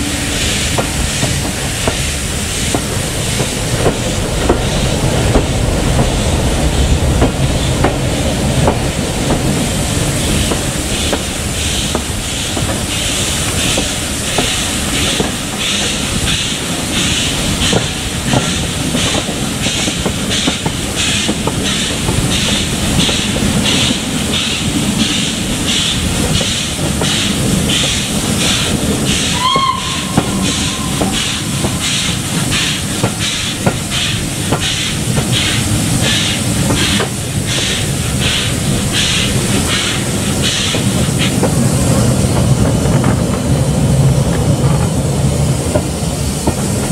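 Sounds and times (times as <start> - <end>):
steam locomotive exhaust beating: 0.0 - 46.9
train rumble: 0.0 - 46.9.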